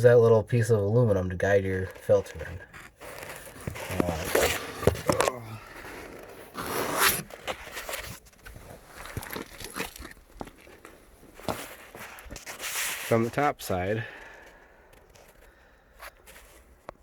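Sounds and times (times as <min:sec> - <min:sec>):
rustling and scraping handling: 0:01.4 - 0:17.0.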